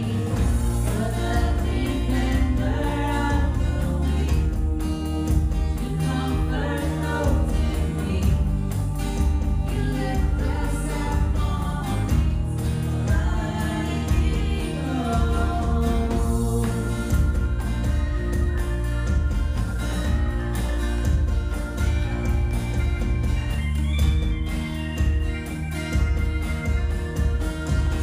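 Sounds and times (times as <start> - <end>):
choir singing gospel music: 0.0 - 28.0
instrumental backing with beat: 0.0 - 28.0.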